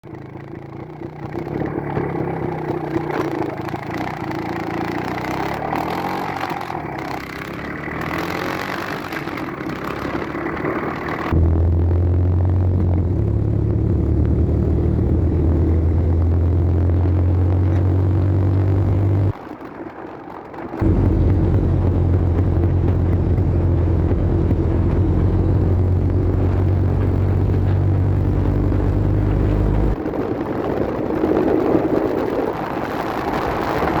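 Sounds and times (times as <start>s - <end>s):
motorcycle engine running: 0.0s - 19.4s, 20.8s - 34.0s.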